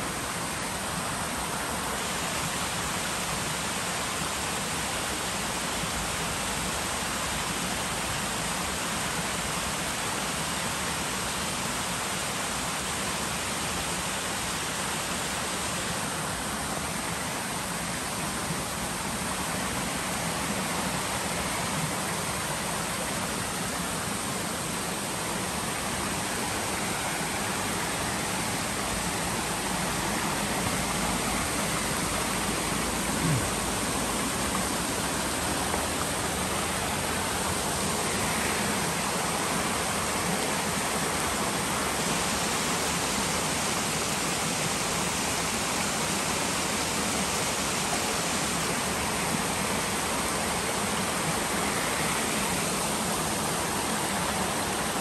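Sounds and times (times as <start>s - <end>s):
creek rushing over rocks: 0.0s - 55.0s.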